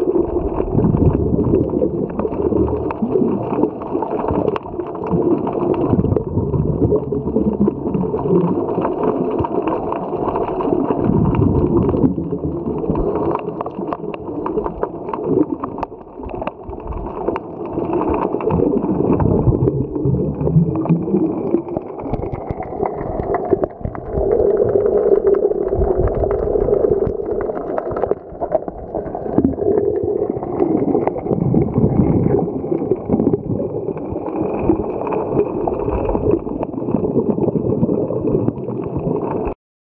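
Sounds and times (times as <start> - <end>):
underwater gurgling and bubbles: 0.0 - 39.6.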